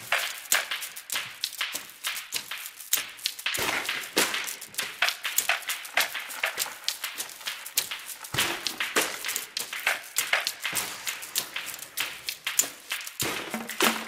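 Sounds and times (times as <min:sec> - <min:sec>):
hand percussion clicks and taps: 0:00.0 - 0:14.0.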